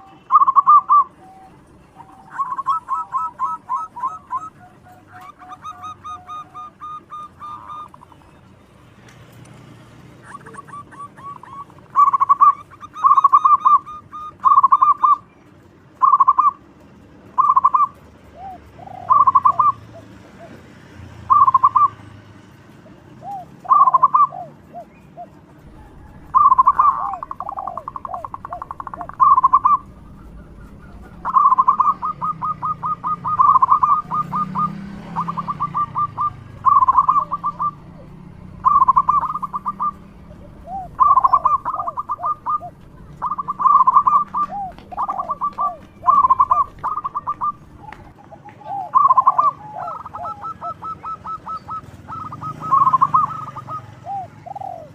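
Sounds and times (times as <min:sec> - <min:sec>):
dove cooing: 0:00.0 - 0:08.5, 0:10.1 - 0:15.3, 0:16.0 - 0:16.6, 0:17.3 - 0:20.7, 0:21.3 - 0:22.0, 0:23.2 - 0:54.9.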